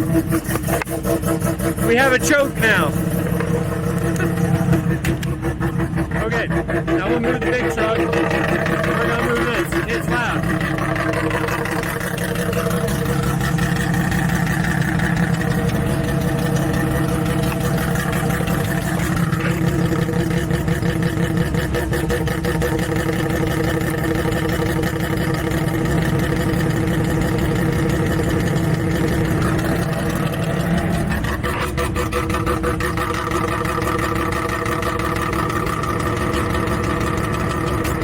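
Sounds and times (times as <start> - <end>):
rotary engine idling loudly: 0.0 - 38.0.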